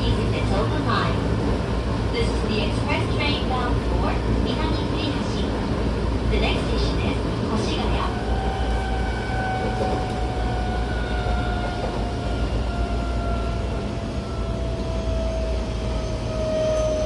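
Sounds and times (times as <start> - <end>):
train inverter and motor whine: 0.0 - 17.0
wheels rumbling on rail: 0.0 - 17.0.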